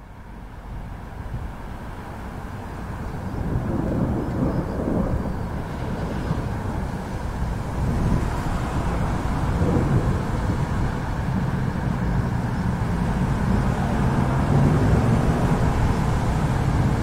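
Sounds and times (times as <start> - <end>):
thunder rumbling: 3.2 - 17.0.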